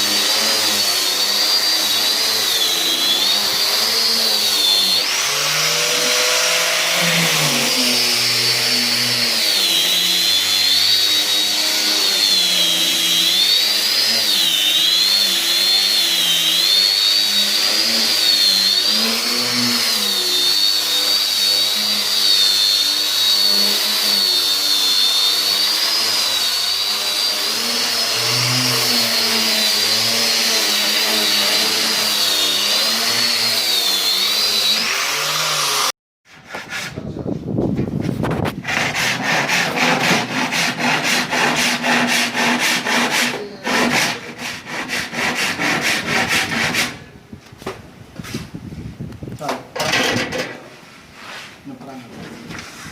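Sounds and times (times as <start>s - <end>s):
power tool whining: 0.0s - 35.9s, 38.5s - 45.8s.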